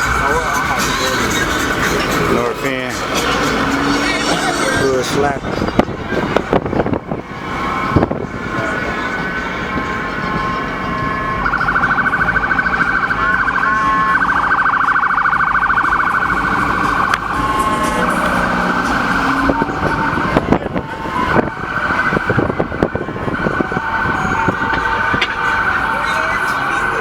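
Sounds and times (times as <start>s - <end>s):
police siren warbling: 0.0s - 27.0s.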